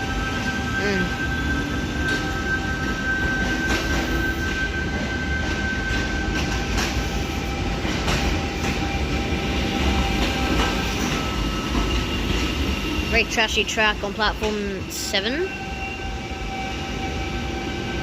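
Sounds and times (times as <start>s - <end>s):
train clunks: 0.0s - 15.4s
electric train humming and whining: 0.0s - 18.0s.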